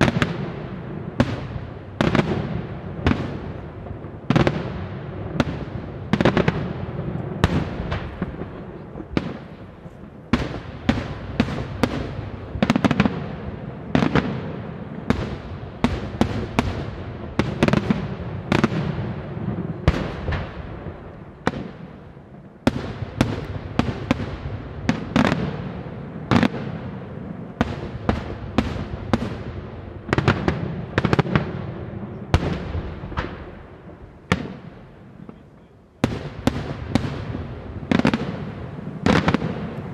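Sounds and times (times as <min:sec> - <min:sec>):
fireworks bursting with loud bangs: 0:00.0 - 0:39.9.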